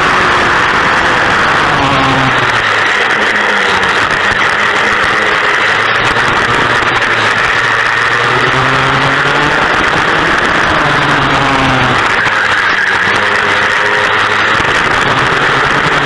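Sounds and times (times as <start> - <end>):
racing kart engines running hard: 0.0 - 16.0.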